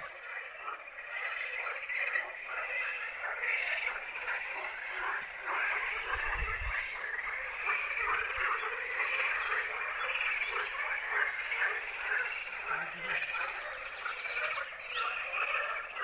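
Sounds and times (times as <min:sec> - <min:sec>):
chorus of frogs croaking: 0:00.0 - 0:16.0.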